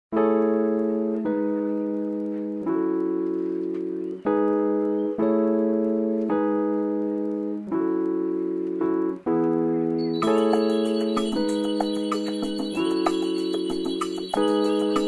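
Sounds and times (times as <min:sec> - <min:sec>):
sustained keyboard chords: 0:00.1 - 0:15.0.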